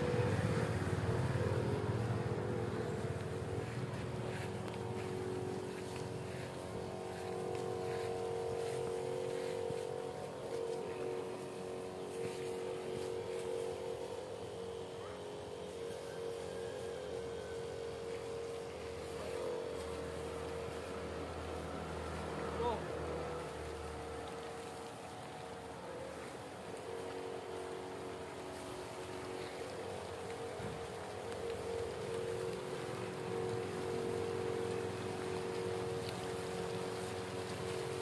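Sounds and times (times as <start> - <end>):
electric sprayer pump humming: 0.0 - 38.0.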